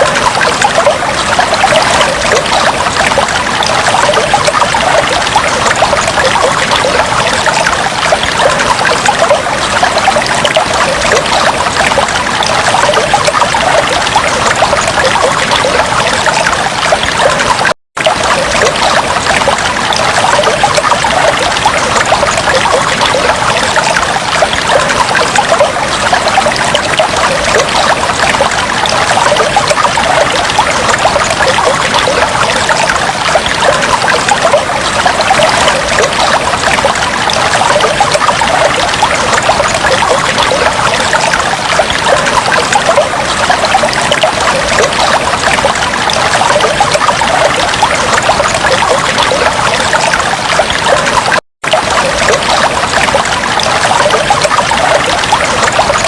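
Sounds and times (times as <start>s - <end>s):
aquarium water trickling and bubbling: 0.0s - 56.0s.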